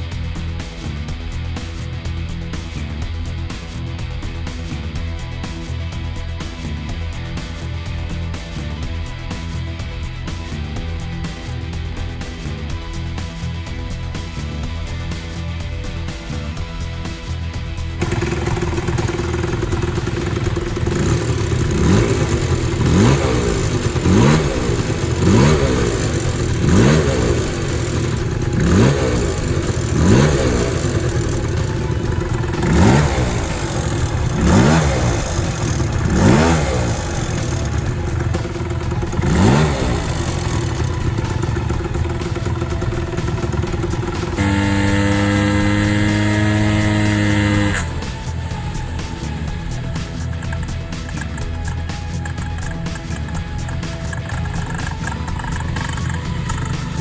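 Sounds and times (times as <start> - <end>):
scooter engine idling and revving: 0.0 - 57.0.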